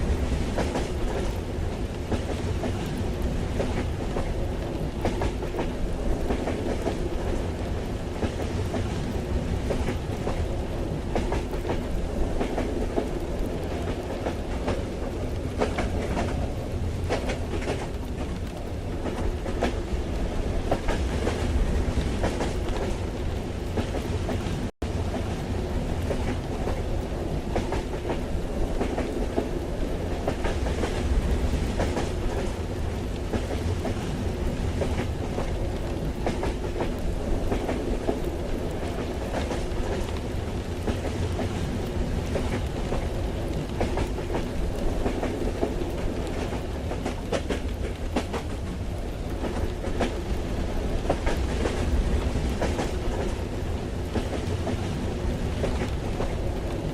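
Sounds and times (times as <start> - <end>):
rain: 0.0 - 56.9
train carriage rumbling on rails: 0.0 - 56.9.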